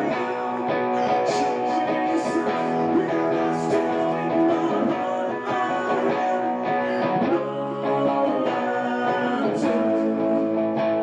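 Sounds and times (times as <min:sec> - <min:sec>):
electric guitar chords ringing: 0:00.0 - 0:11.0.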